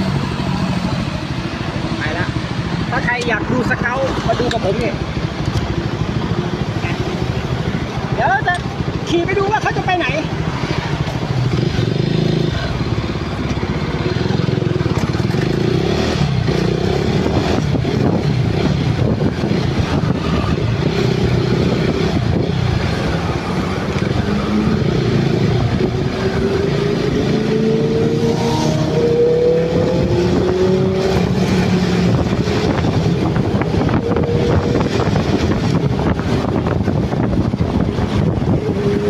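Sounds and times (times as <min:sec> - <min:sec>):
motorcycle engine: 0:00.0 - 0:39.0
wind and road noise: 0:00.0 - 0:39.0.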